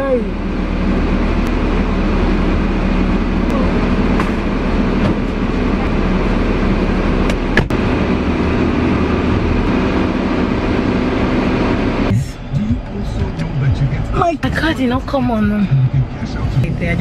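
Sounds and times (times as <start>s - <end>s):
car engine hum inside cabin: 0.0s - 17.0s.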